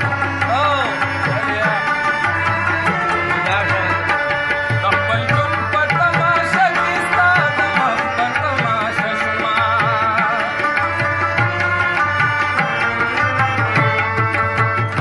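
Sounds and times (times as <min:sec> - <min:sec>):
harmonium: 0:00.0 - 0:15.0
man singing: 0:00.0 - 0:15.0
rabab: 0:00.0 - 0:15.0.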